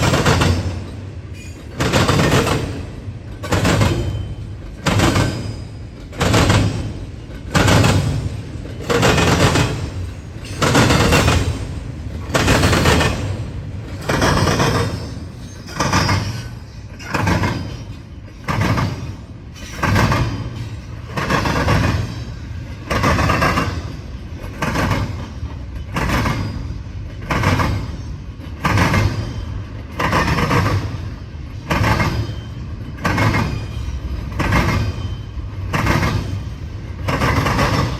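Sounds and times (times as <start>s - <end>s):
low train rumble: 0.0s - 37.9s
train wheels clattering over rail joints: 0.0s - 37.9s.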